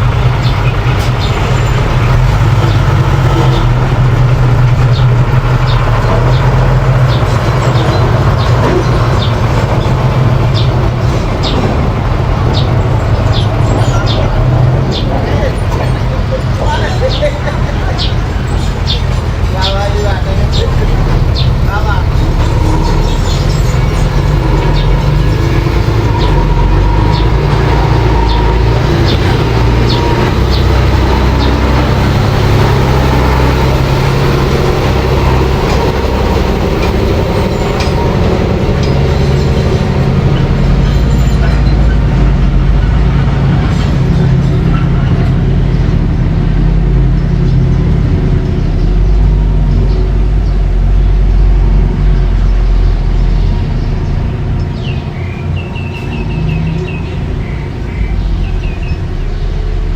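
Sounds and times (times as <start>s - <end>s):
bulldozer engine rumbling: 0.0s - 59.9s.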